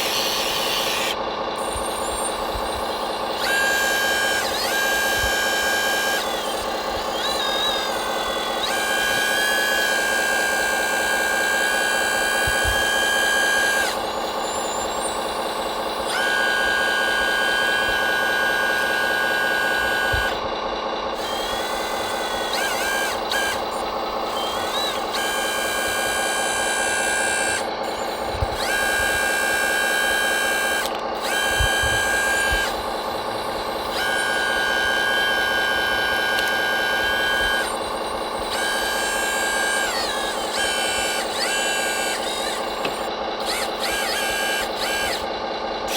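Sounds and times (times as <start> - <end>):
motor whine: 0.0 - 45.9.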